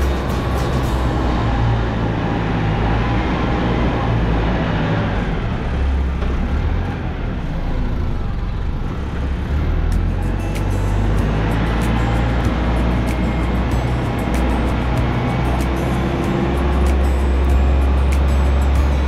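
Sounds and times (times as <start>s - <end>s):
excavator engine droning: 0.0s - 19.0s.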